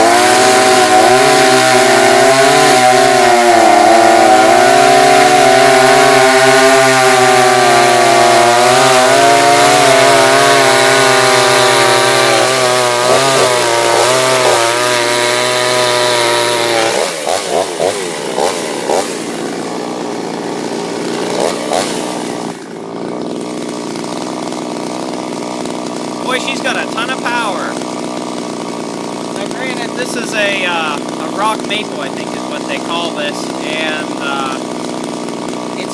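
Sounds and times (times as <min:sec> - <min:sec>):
chainsaw cutting log: 0:00.0 - 0:35.9.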